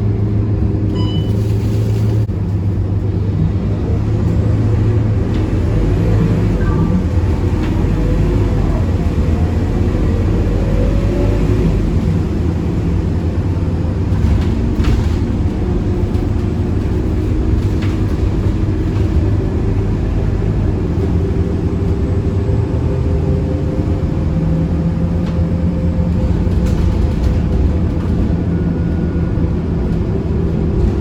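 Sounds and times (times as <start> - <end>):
bus diesel engine running: 0.0 - 31.0
low road rumble: 0.0 - 31.0.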